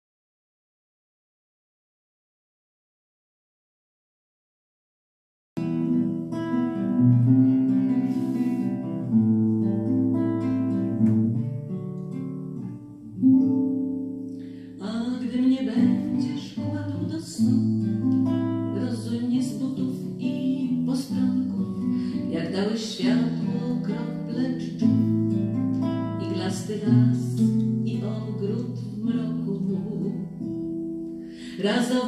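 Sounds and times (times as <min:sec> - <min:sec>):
acoustic guitars playing: 0:05.6 - 0:32.0.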